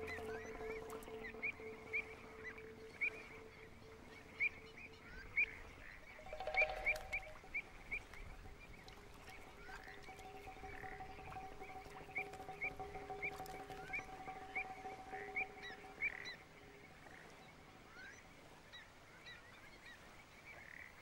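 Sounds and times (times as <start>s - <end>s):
soft sustained music: 0.0s - 18.7s.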